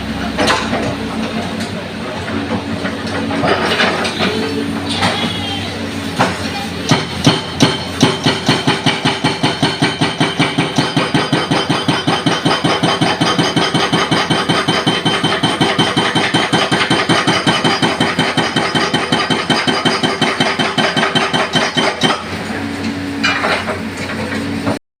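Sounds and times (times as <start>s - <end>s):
excavator engine running: 0.0s - 24.8s
hydraulic breaker hammering concrete: 0.3s - 24.8s.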